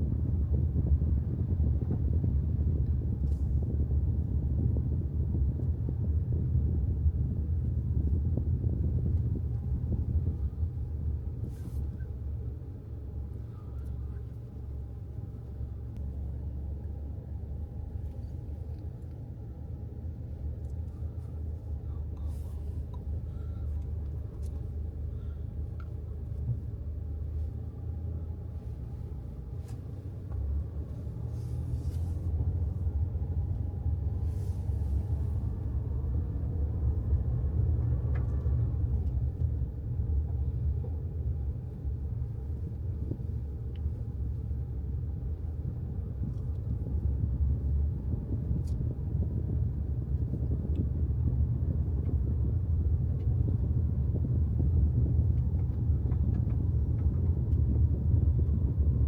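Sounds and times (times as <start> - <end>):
moving vehicle rumble: 0.0 - 59.0.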